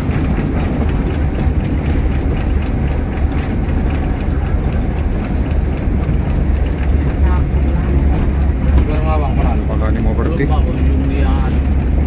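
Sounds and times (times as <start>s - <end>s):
bus engine and tyres rumbling: 0.0s - 12.0s.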